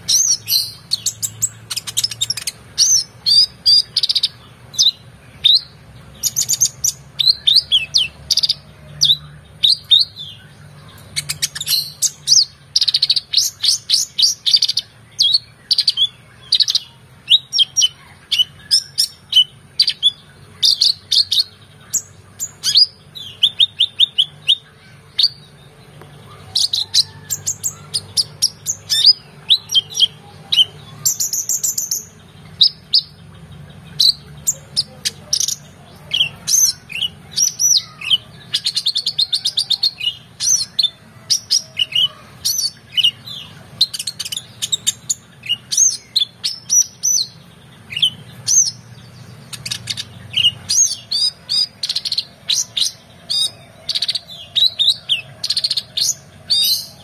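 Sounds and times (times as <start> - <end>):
bird singing chirps and trills: 0.0 - 57.0.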